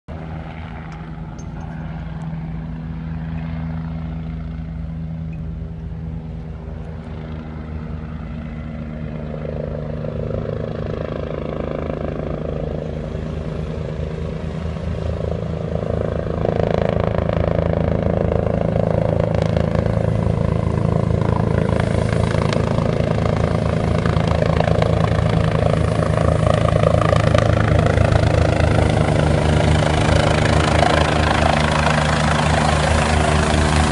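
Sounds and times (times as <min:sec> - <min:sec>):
helicopter rotor and engine: 0:00.1 - 0:33.9.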